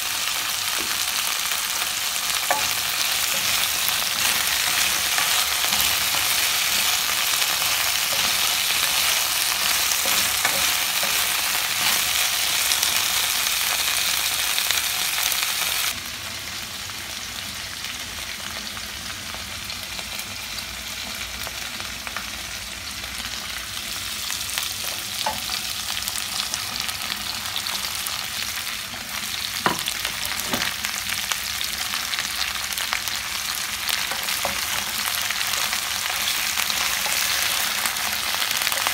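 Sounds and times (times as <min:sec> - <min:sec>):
vegetables sizzling in a wok: 0:00.0 - 0:38.9.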